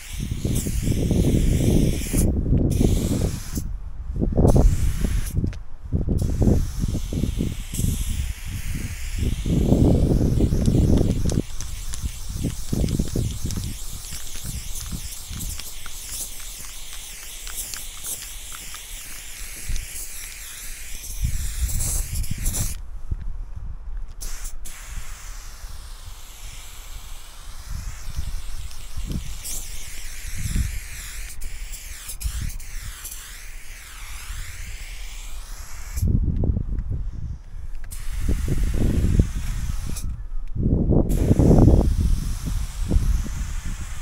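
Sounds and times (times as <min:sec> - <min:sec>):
spray paint can hissing: 0:00.0 - 0:03.7, 0:04.5 - 0:05.6, 0:06.2 - 0:22.8, 0:24.1 - 0:36.2, 0:37.7 - 0:40.2, 0:41.1 - 0:44.0.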